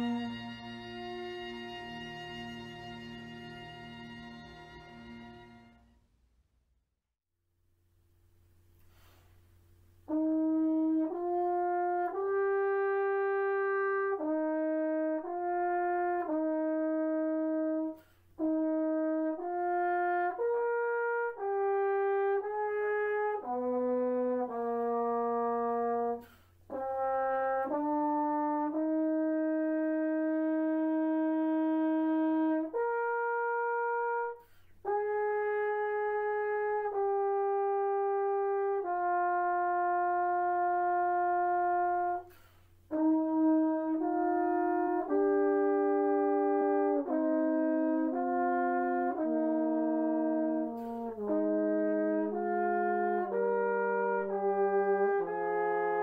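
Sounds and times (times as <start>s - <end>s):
french horn slow melody: 0.0s - 6.0s, 8.7s - 56.0s.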